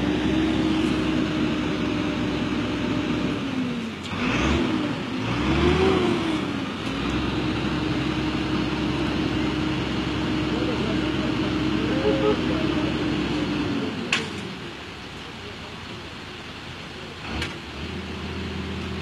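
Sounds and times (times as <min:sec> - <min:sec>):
bus engine running and revving: 0:00.0 - 0:19.0.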